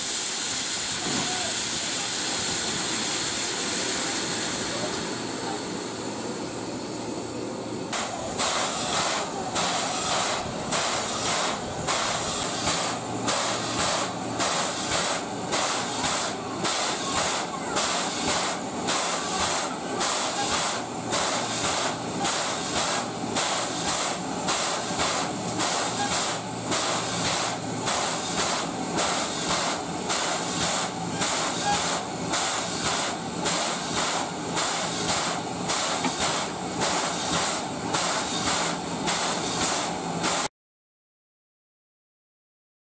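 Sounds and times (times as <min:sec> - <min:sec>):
steam locomotive hissing steam: 0:00.0 - 0:40.5.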